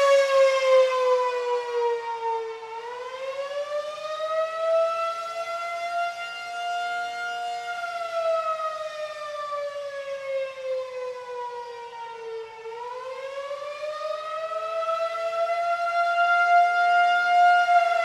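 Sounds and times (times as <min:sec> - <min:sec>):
tornado siren wailing: 0:00.0 - 0:18.0.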